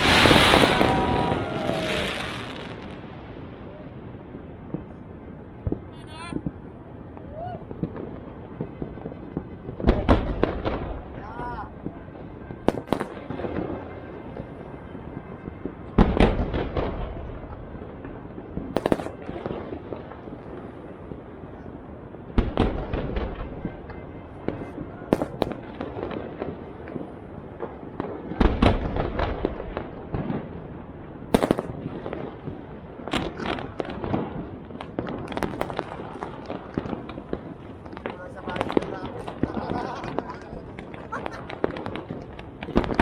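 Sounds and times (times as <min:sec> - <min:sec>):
fireworks bangs: 0:00.0 - 0:43.0
fireworks crackle: 0:00.0 - 0:43.0.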